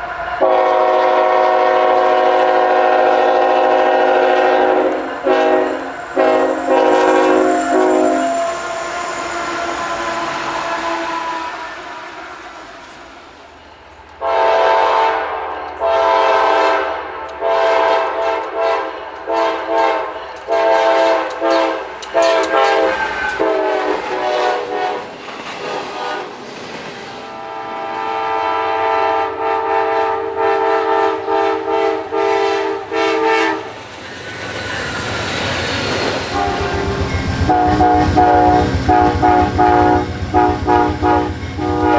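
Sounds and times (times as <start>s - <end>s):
train horn blasts: 0.0s - 26.4s, 27.2s - 33.8s, 35.8s - 41.9s.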